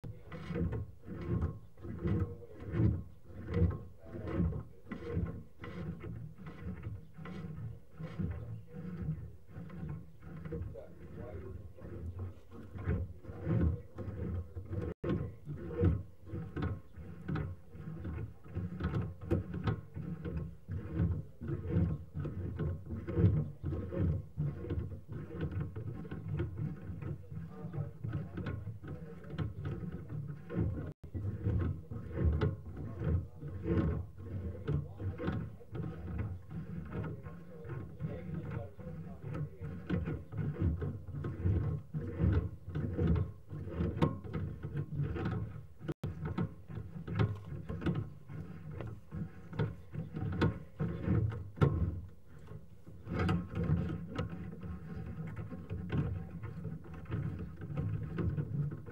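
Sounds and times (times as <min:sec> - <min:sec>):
camera knocking and rubbing in pipe: 0:00.0 - 0:58.9.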